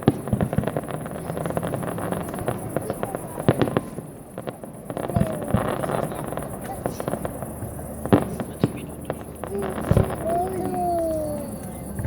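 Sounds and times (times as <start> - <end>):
firework bangs: 0.0 - 12.0
fireworks crackling: 0.0 - 12.0.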